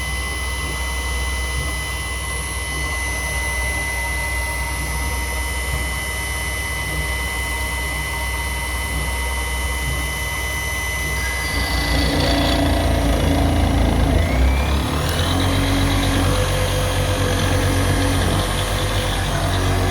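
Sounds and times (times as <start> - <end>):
milling machine hum with whines: 0.0 - 19.9.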